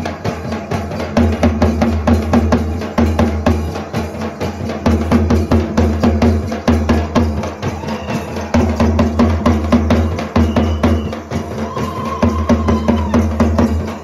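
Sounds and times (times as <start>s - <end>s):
drums beaten with sticks: 0.0s - 14.0s.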